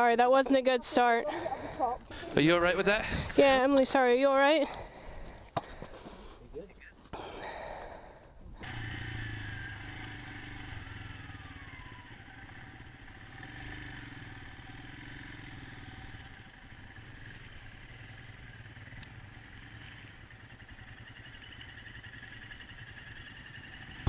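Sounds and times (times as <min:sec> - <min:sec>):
motorcycle engines running: 0:00.0 - 0:05.1, 0:08.6 - 0:24.0.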